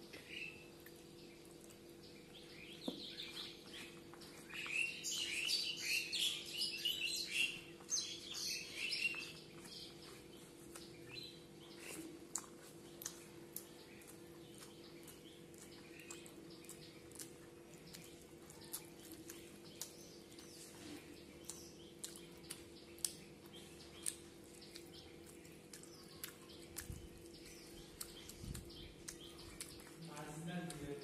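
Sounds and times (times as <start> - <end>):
birds chirping: 0.0 - 31.0
steady low hum: 0.0 - 31.0.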